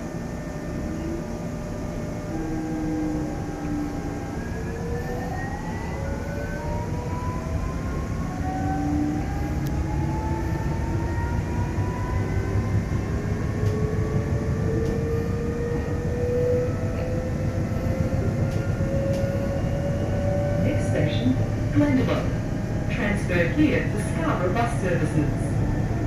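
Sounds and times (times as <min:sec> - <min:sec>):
wheels rumbling on rail: 0:00.0 - 0:26.0.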